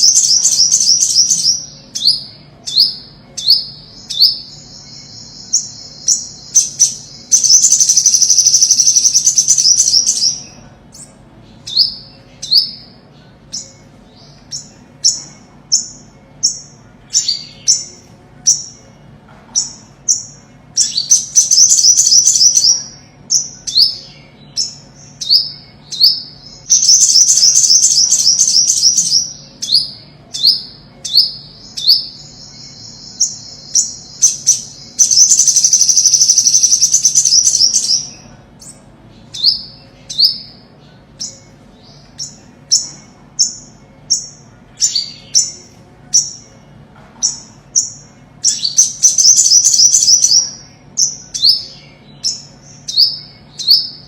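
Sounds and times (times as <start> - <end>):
bird singing sharp notes and trills: 0.0 - 54.0.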